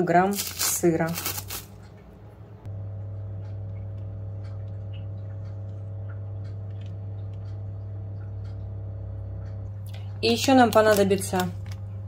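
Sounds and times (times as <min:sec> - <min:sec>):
loud steady low hum: 0:02.0 - 0:12.0.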